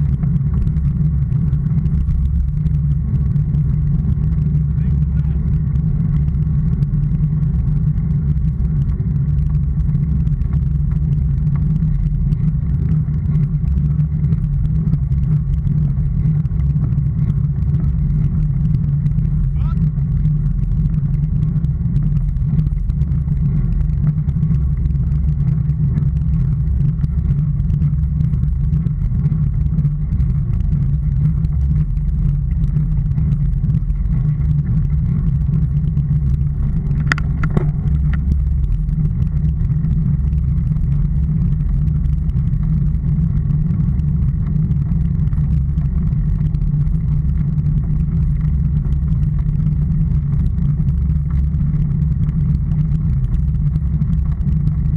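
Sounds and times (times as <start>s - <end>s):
road noise: 0.0s - 54.9s
wind buffeting microphone: 0.0s - 54.9s.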